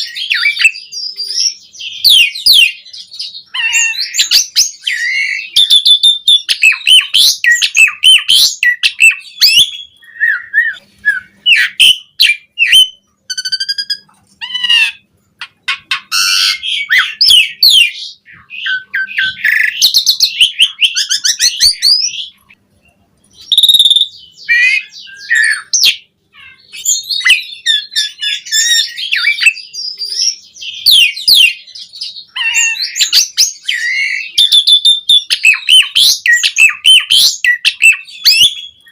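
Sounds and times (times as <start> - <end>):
starling singing: 0.0 - 22.6, 23.2 - 38.9.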